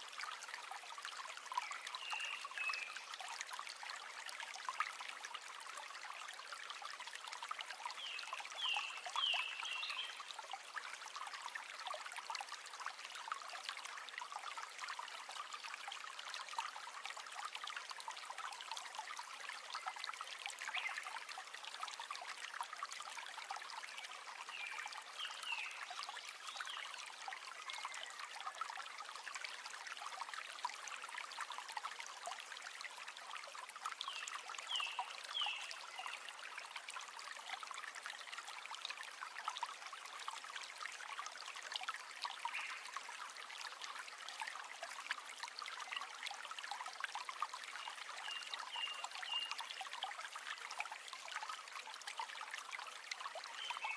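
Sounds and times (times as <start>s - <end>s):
river water babbling: 0.0s - 53.9s.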